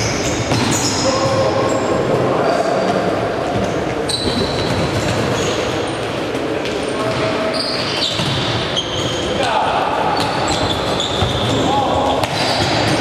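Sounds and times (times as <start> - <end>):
trainers squeaking on court: 0.0 - 2.9, 3.6 - 6.1, 6.8 - 13.0.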